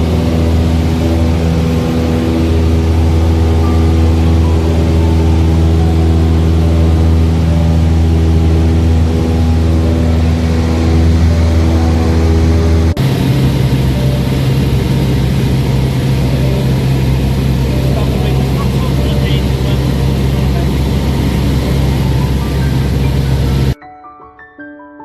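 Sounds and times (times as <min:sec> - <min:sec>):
light aircraft engine from cabin: 0:00.0 - 0:23.8.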